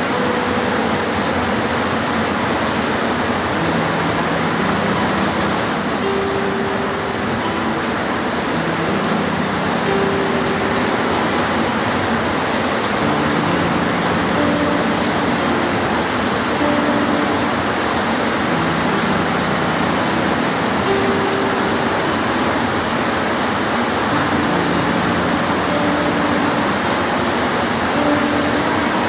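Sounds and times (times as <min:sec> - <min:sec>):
rain hiss: 0:00.0 - 0:29.0.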